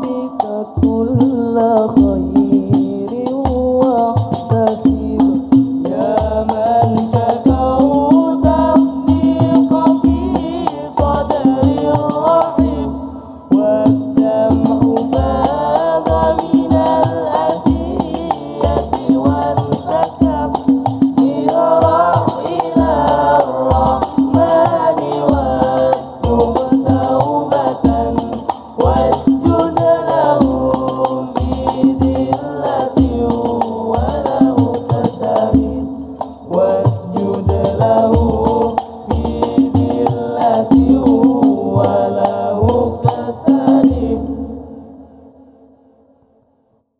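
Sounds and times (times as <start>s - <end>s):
frame drums rhythm: 0.0s - 44.3s
male voices singing together: 0.0s - 44.5s.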